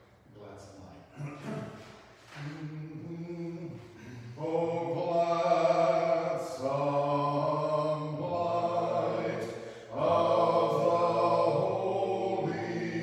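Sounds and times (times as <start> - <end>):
unaccompanied liturgical chant: 1.2 - 13.0.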